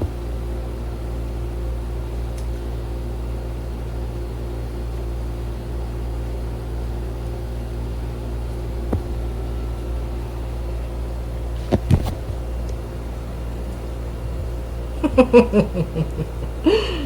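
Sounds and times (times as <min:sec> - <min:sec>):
faint constant tones: 0:00.0 - 0:17.0
low machine hum: 0:00.0 - 0:17.0.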